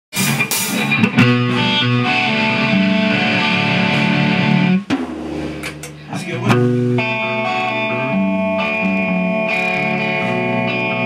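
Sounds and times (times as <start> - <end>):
electric guitar ringing notes: 0.2 - 4.9, 5.6 - 11.0.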